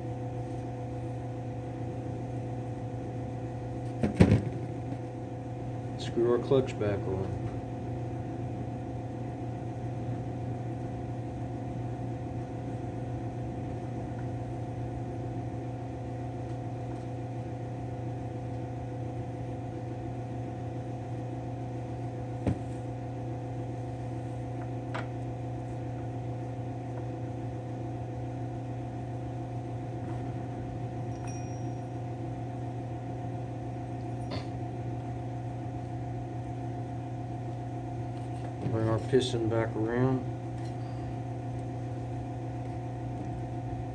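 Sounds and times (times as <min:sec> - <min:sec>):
machine humming: 0:00.0 - 0:43.9.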